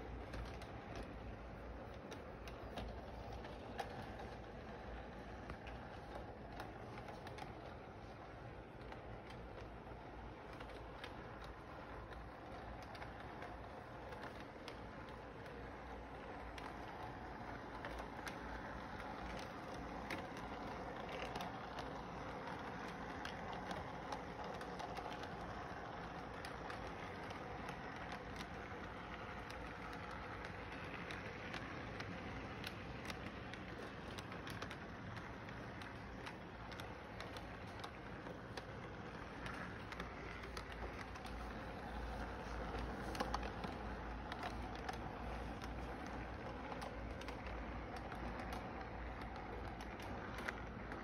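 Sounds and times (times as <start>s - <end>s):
model train rolling hum: 0.0s - 51.0s
wheel clicks: 0.0s - 51.0s.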